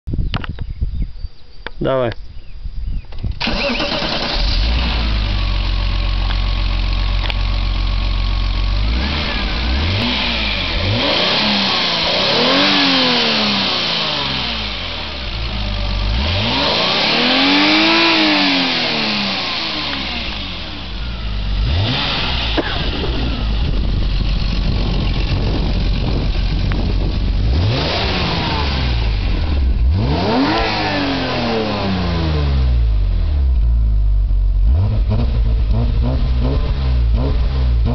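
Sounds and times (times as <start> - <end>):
car engine idling and revving: 3.1 - 37.9.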